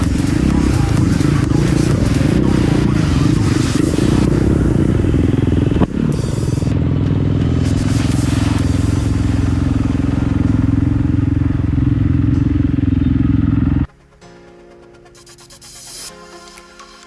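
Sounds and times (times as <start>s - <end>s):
dirt bike engine running: 0.0s - 13.9s
quiet music: 0.0s - 17.0s.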